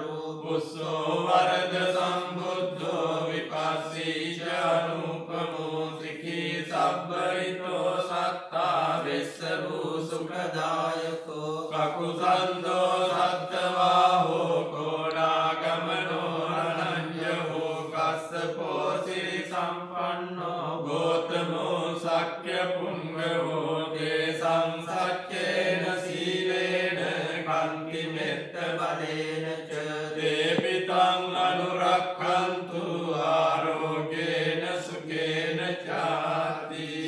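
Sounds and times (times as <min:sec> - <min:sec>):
men chanting together: 0:00.0 - 0:37.0.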